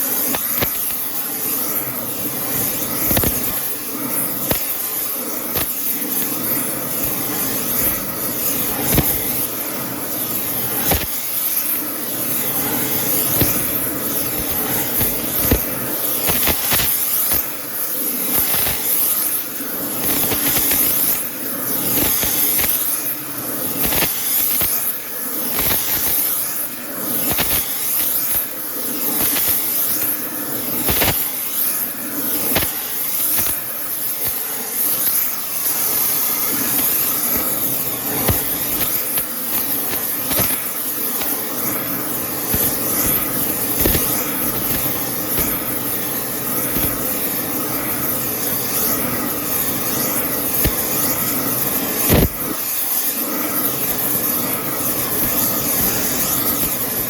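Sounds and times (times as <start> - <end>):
arc welding crackle and pops: 0.0 - 57.0.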